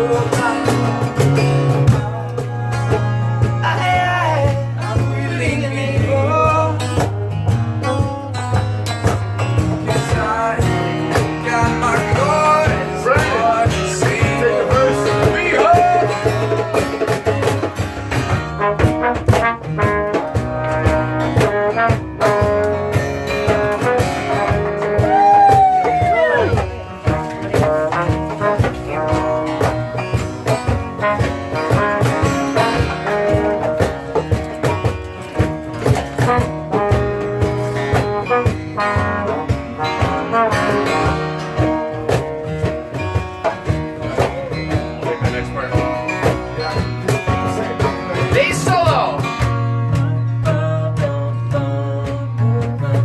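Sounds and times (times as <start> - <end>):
live band music: 0.0 - 53.0
strummed guitar: 0.0 - 53.0.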